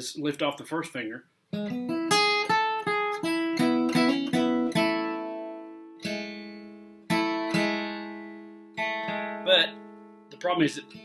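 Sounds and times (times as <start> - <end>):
acoustic guitar picking: 1.5 - 11.0.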